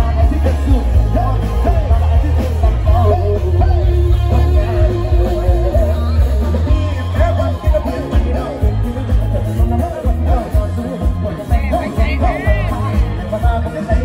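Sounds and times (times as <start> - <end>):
heavy bass: 0.0 - 14.0
live band with singer: 0.0 - 14.0.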